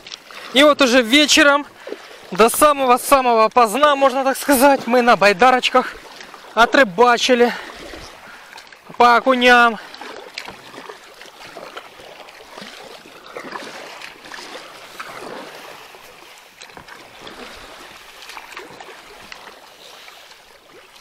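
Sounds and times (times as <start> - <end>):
kayak paddle splashes: 0.0 - 21.0
water lapping against kayak hull: 0.0 - 21.0.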